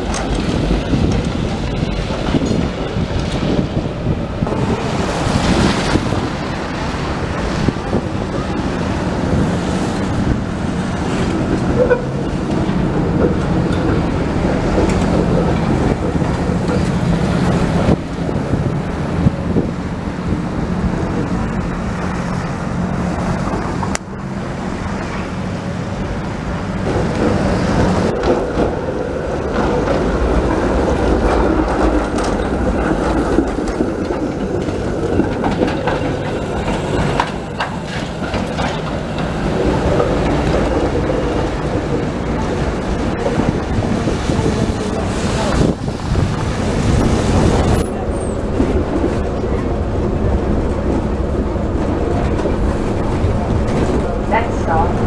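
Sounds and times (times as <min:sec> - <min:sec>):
cars passing on wet pavement: 0:00.0 - 0:55.0
streetcar running on rails: 0:00.0 - 0:55.0
wind on microphone: 0:00.0 - 0:55.0.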